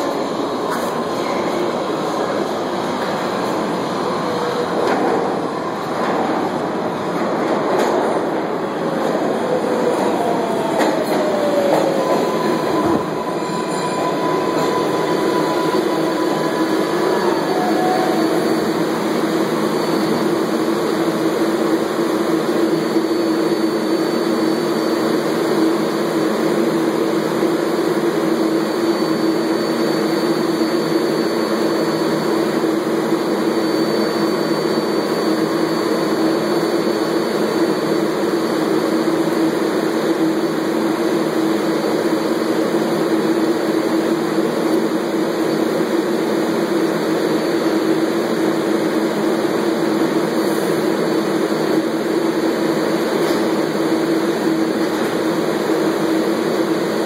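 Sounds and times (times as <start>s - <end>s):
subway train motor whine: 0.0s - 57.0s
train hum and rumble: 0.0s - 57.0s.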